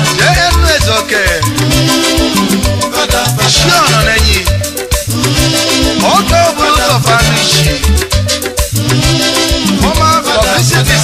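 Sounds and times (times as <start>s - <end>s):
bass notes: 0.0s - 11.0s
shaker percussion: 0.0s - 11.0s.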